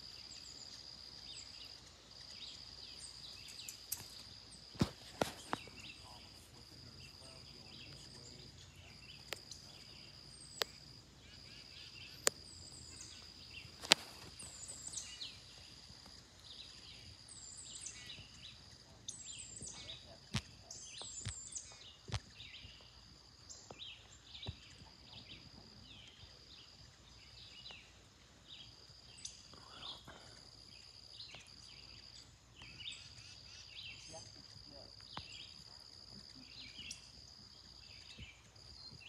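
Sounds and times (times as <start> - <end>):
birds chirping: 0.0 - 39.0
high insect drone: 0.0 - 39.0.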